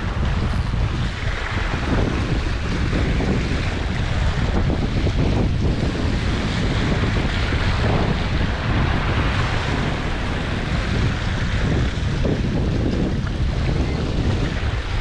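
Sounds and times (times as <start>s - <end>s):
sea waves on shore: 0.0s - 15.0s
wind buffeting microphone: 0.0s - 15.0s.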